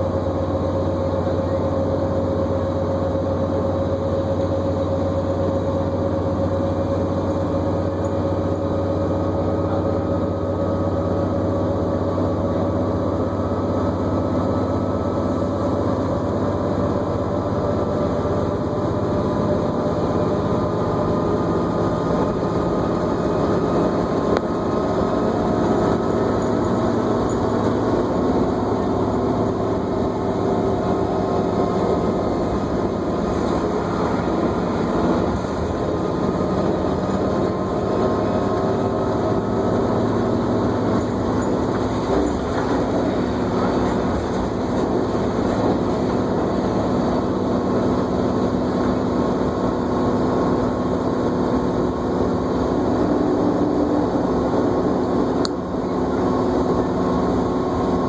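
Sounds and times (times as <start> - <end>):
bus engine and road noise: 0.0 - 58.0
high drivetrain whine: 0.0 - 58.0.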